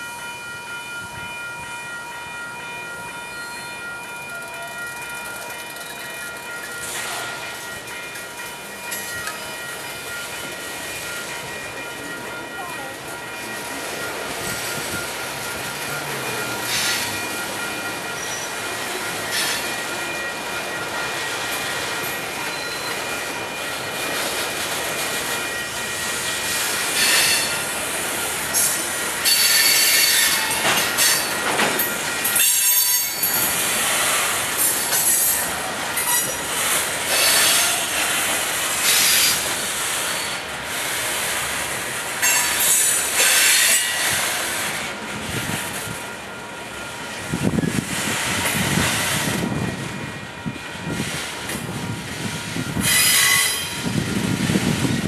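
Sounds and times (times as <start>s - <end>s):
steel wheels squealing on rails: 0.0s - 12.6s, 13.2s - 46.0s, 46.8s - 55.0s.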